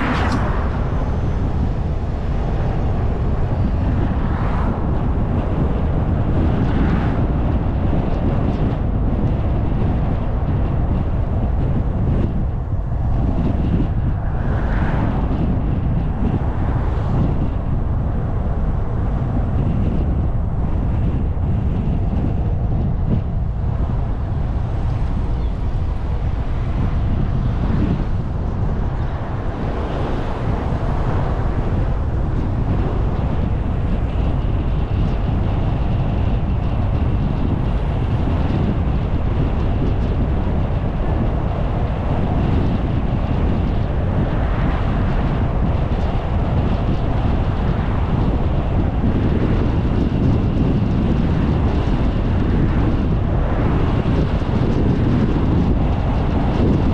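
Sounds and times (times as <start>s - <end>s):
car road and wind noise: 0.0s - 56.9s.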